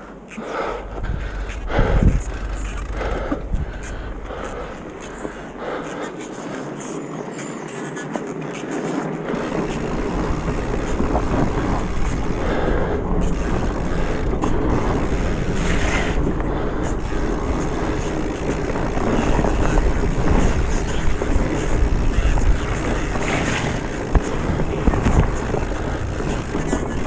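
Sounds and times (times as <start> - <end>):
wind buffeting microphone: 0.6 - 7.4, 8.0 - 27.0
tyre and rattle noise: 0.6 - 27.0.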